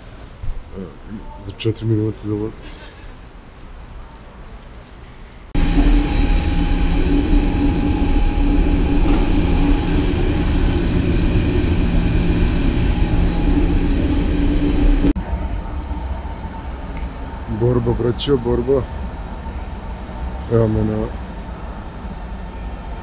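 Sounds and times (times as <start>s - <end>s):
electric train rumble: 0.0s - 23.0s
steady hum: 0.0s - 23.0s.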